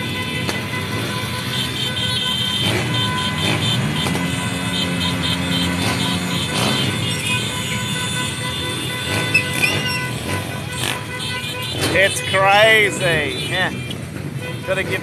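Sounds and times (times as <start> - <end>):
motorcycle engine revving: 0.0 - 15.0
motorcycle engines running: 0.0 - 15.0.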